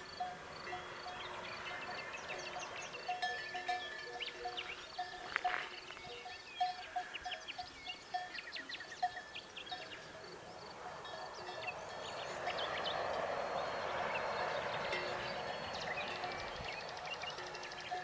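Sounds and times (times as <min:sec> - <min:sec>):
birds chirping: 0:00.1 - 0:18.0.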